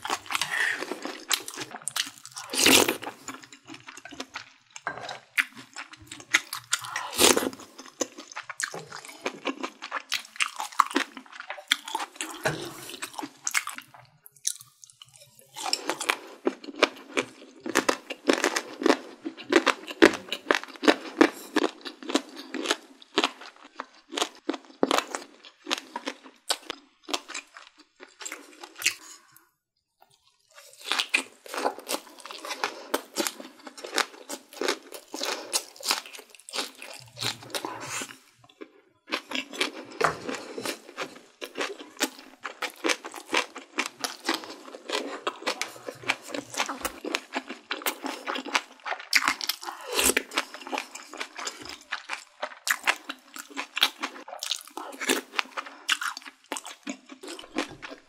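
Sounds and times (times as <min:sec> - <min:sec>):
chewing with mouth clicks: 0:00.0 - 0:29.3, 0:30.1 - 0:58.0.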